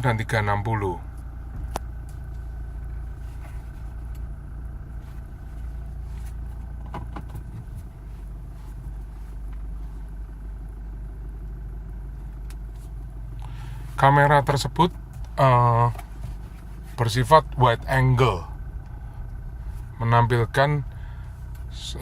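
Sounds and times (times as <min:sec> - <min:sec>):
car engine rumble inside cabin: 0:00.0 - 0:22.0.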